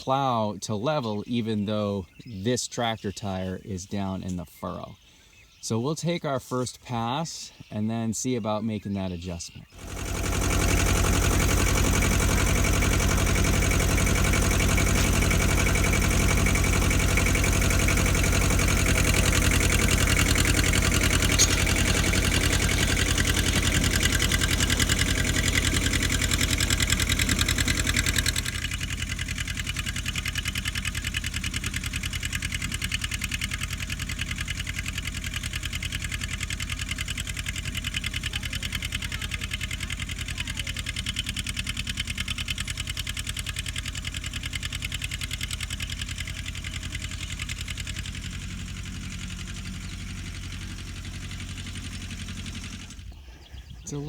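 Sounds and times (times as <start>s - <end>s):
tractor diesel engine running: 0.0s - 5.0s, 5.6s - 54.0s.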